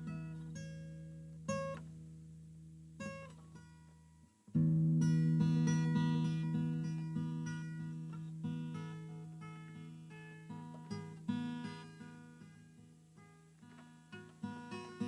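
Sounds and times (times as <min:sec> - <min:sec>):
acoustic guitar picking: 0:00.0 - 0:02.1, 0:03.0 - 0:15.0.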